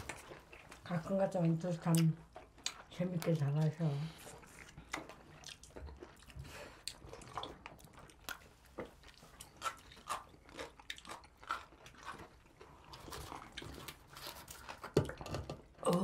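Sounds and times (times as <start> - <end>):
people chewing pizza: 0.0 - 16.0.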